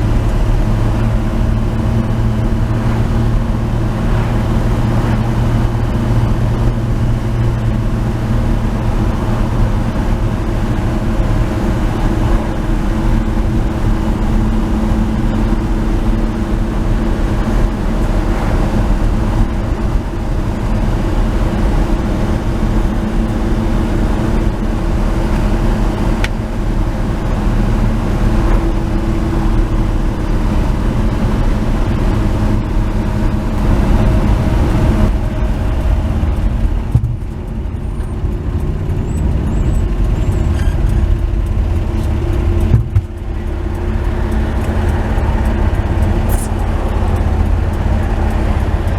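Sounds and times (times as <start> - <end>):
pickup truck engine running: 0.0 - 48.9
tyre and road noise: 0.0 - 48.9.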